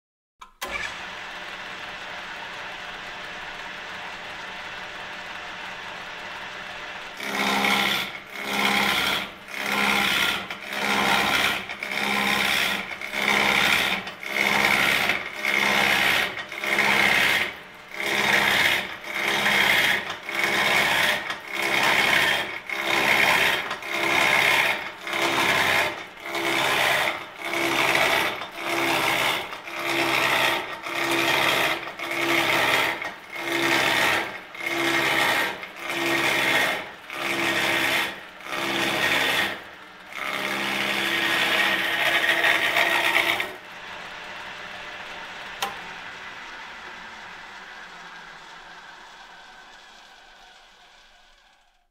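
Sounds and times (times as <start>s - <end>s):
wood lathe cutting: 0.5s - 51.8s.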